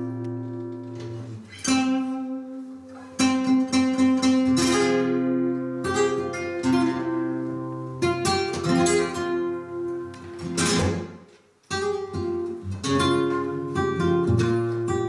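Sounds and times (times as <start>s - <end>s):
flamenco guitars strumming: 0.0s - 15.0s.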